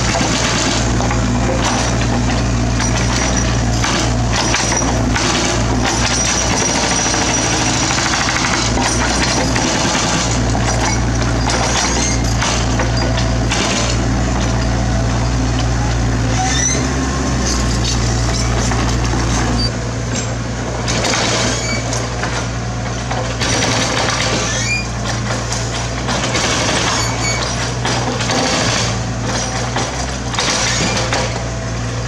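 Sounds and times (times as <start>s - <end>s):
diesel excavator engine running: 0.0s - 32.0s.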